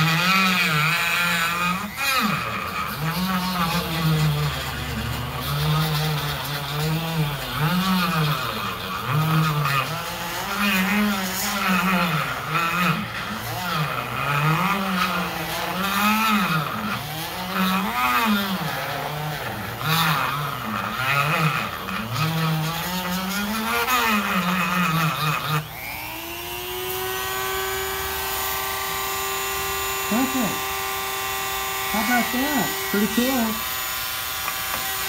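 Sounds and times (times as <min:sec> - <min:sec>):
rotary tool grinding metal: 0:00.0 - 0:35.0
rotary tool motor whining: 0:00.0 - 0:35.0.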